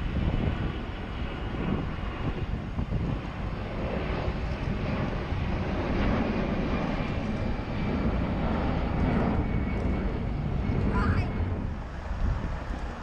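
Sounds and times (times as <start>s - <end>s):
airliner jet engines rumbling: 0.0s - 13.0s.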